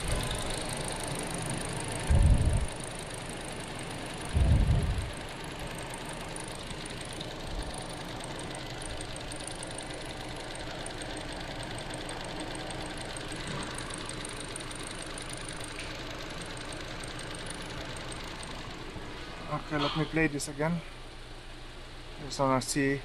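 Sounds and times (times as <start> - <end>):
car engine idling with ticking: 0.0 - 21.4.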